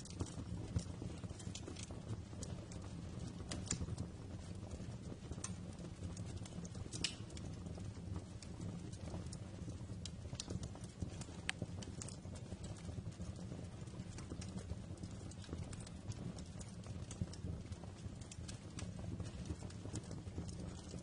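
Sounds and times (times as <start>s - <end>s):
low rumble of burning fire: 0.0s - 21.0s
wood fire crackling: 0.0s - 21.0s.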